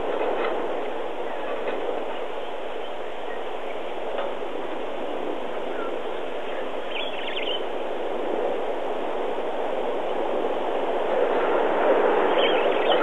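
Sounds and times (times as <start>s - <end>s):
rolling road noise: 0.0s - 13.0s.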